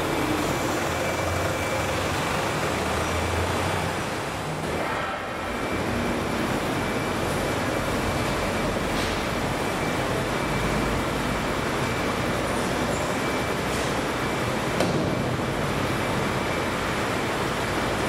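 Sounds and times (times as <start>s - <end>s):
car engines running: 0.0s - 18.0s.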